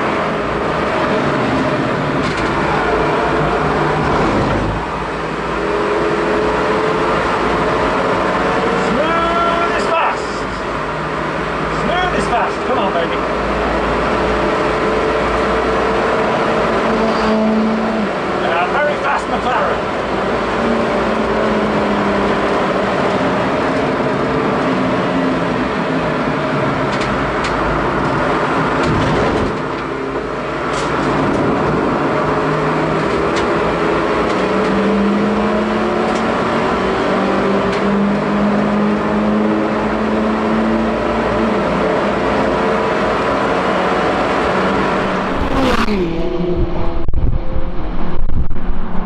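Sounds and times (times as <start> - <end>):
race car engine at high revs: 0.0 - 49.0.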